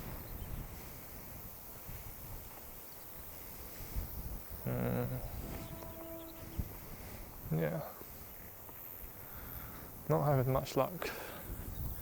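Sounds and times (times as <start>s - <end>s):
wind buffeting a microphone: 0.0s - 10.7s, 11.4s - 12.0s.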